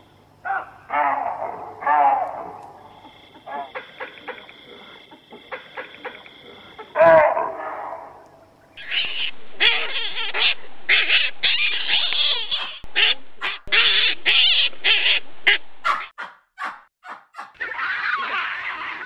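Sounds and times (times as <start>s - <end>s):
animal harsh calls: 0.4s - 8.0s, 8.8s - 19.0s.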